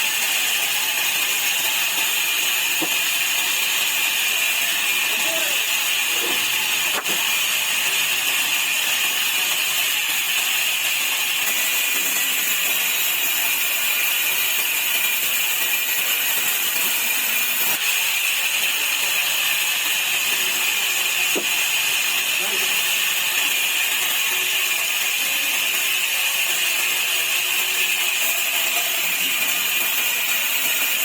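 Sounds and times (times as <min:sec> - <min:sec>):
sawmill saw cutting wood: 0:00.0 - 0:31.0.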